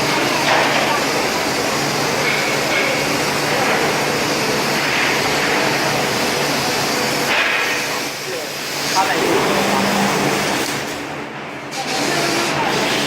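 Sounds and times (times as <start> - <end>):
laser cutting machine hissing: 0.0 - 11.1, 11.7 - 13.0.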